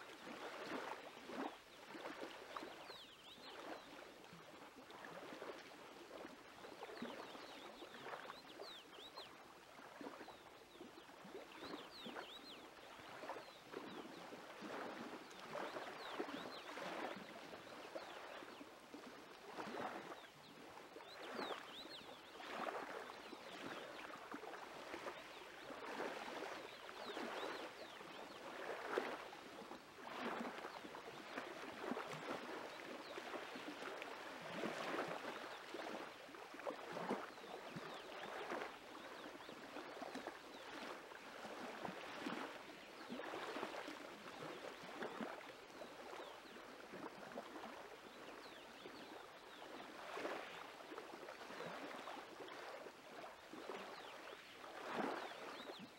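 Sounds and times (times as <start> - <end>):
small waves lapping at shore: 0.0 - 55.9.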